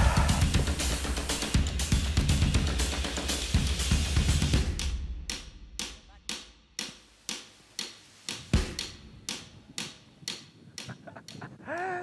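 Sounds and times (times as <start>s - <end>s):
snare drum beat: 0.0s - 10.0s.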